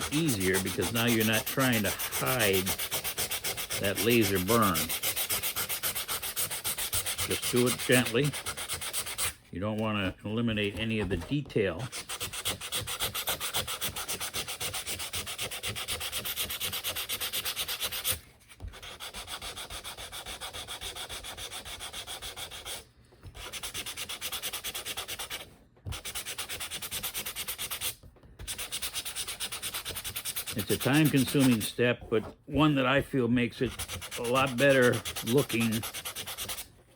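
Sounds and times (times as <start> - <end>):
sandpaper rubbing on wood: 0.0 - 9.4, 11.8 - 22.8, 23.4 - 36.7.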